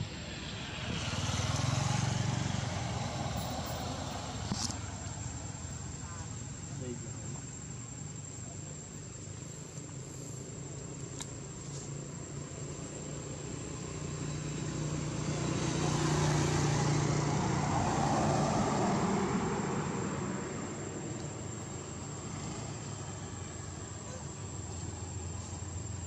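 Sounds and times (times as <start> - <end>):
vehicle passing on road: 0.0 - 8.3, 8.9 - 26.0.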